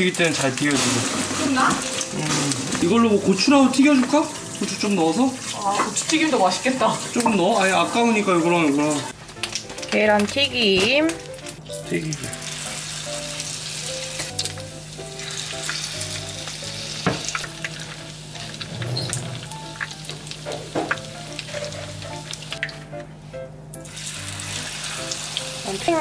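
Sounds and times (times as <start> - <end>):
oil sizzling: 0.0 - 26.0
background music with plucked notes: 0.5 - 26.0.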